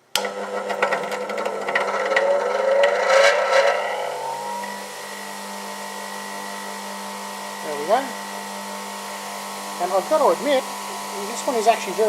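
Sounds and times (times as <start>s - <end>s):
bench grinder motor whine: 0.0s - 12.0s.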